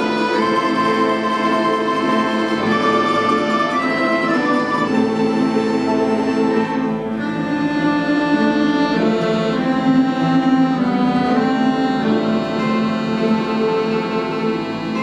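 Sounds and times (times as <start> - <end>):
folk instrument orchestra playing: 0.0 - 15.0.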